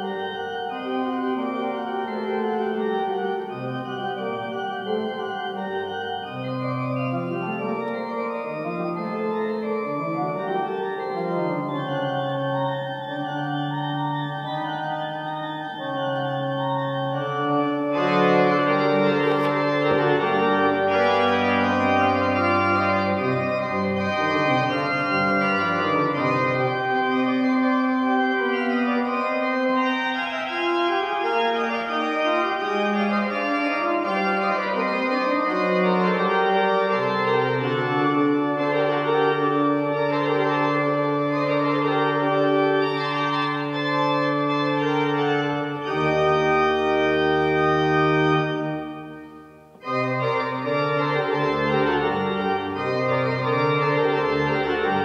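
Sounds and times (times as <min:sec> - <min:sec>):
pipe organ chords: 0:00.0 - 0:55.0.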